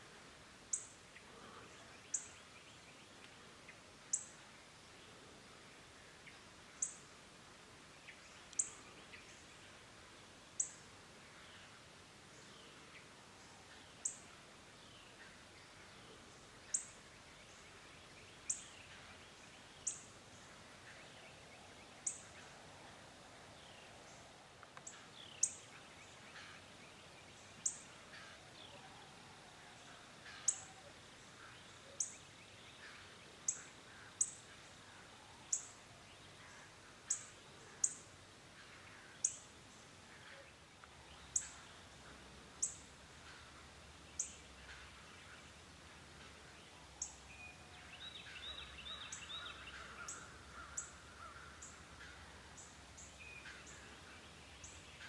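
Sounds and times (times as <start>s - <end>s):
faint bird calls: 10.6s - 55.0s.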